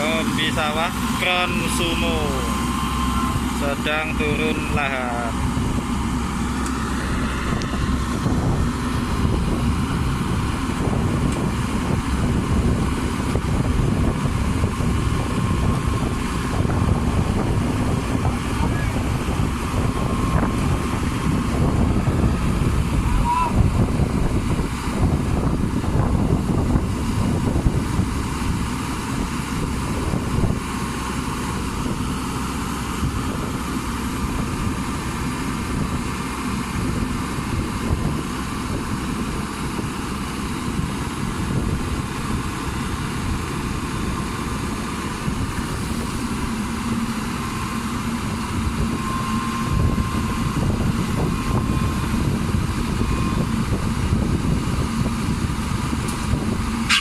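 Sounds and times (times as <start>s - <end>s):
faint steady whine: 0.0s - 29.1s, 30.0s - 57.0s
diesel engine running: 0.0s - 57.0s.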